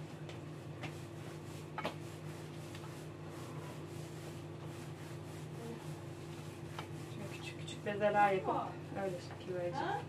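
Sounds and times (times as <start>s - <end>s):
hands kneading dough: 0.0s - 10.0s
steady low hum: 0.0s - 10.0s.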